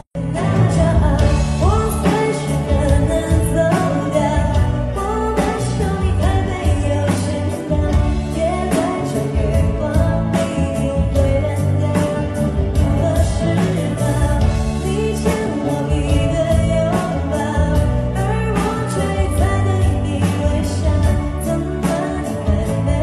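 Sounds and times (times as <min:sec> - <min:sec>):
song with singing voice: 0:00.0 - 0:23.0.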